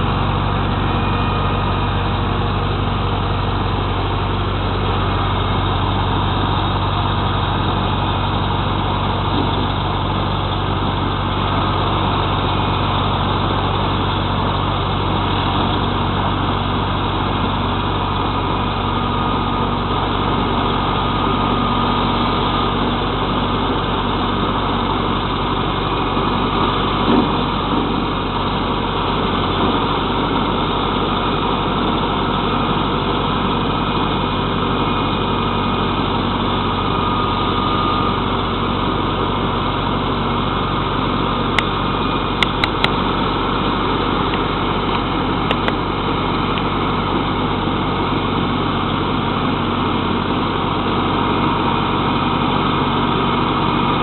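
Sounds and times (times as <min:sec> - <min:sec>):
flail mower cutting brush: 0:00.0 - 0:54.0
tractor diesel engine running: 0:00.0 - 0:54.0.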